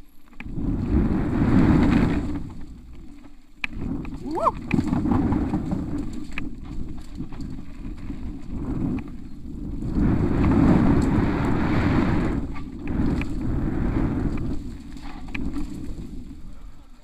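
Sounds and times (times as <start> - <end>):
bike rattling on rough ground: 0.0 - 17.0
wind buffeting microphone: 0.0 - 17.0.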